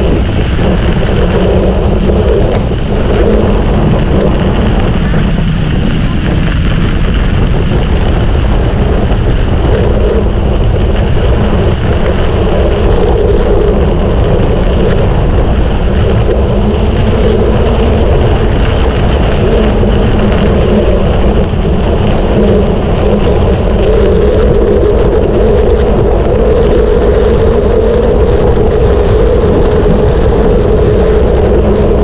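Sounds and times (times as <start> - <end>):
bike tyres rolling on trail: 0.0 - 32.0
wind on microphone: 0.0 - 32.0.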